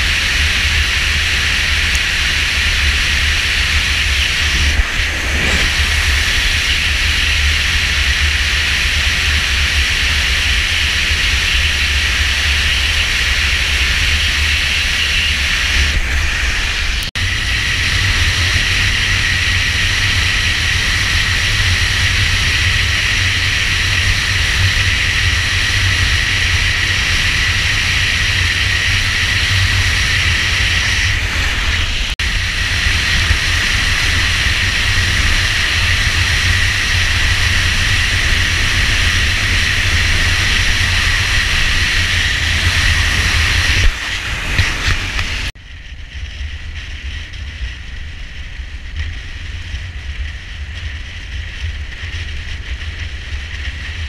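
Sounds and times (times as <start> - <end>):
motorcycle engine and road noise: 0.0 - 54.0
wind buffeting microphone: 0.0 - 54.0.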